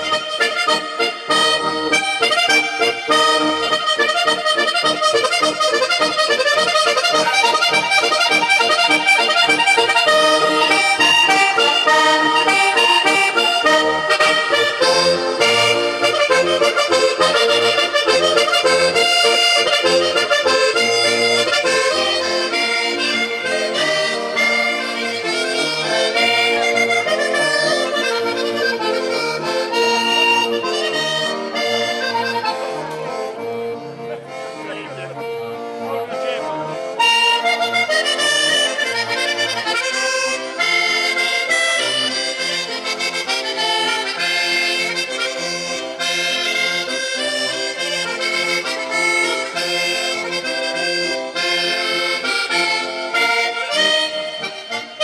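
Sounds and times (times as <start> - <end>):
accordions playing dance tune: 0.0 - 55.0.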